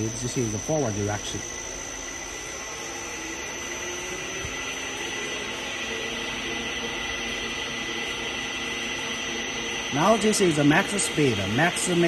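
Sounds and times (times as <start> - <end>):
mixer motor humming with high whine: 0.0 - 12.0.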